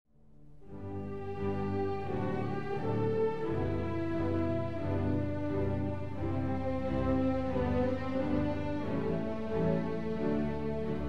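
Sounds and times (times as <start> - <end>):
slow instrumental music: 0.2 - 11.0.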